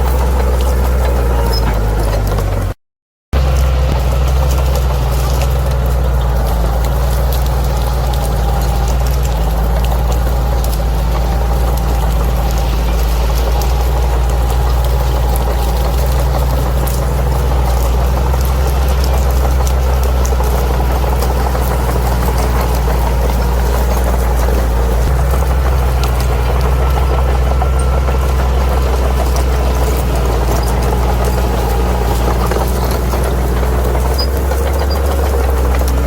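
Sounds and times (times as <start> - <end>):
diesel engine droning: 0.0 - 36.0
faint clicks: 3.5 - 36.0.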